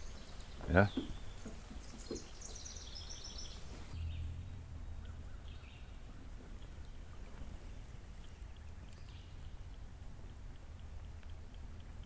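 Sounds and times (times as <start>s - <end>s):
faint bird chirps: 0.0s - 10.4s
low steady hum: 0.0s - 12.0s.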